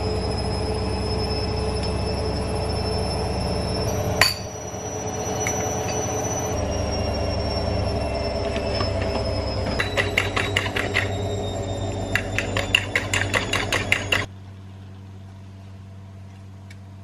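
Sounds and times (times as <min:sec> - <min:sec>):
small electric motor whining: 0:00.0 - 0:14.3.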